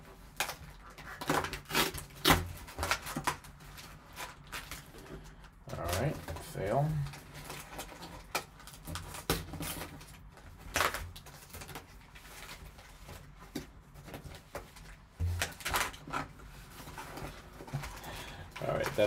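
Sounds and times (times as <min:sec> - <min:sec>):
foil packs crinkling and rustling: 0:00.0 - 0:19.0.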